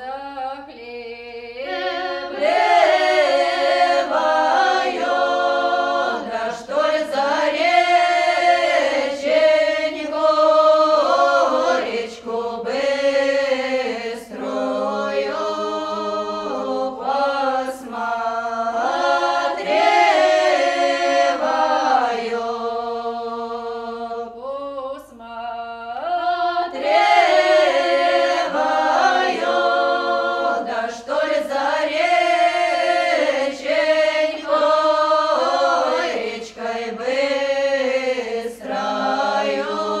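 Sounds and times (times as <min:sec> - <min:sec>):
unaccompanied choir singing: 0:00.6 - 0:40.0.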